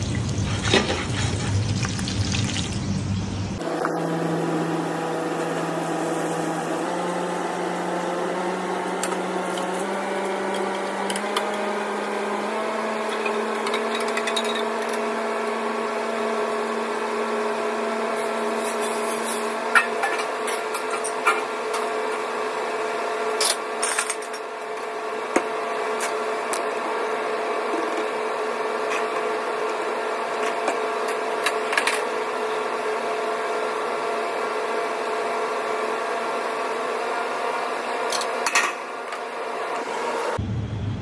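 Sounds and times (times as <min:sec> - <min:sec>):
kitchen extraction fan hum: 0:00.0 - 0:41.0.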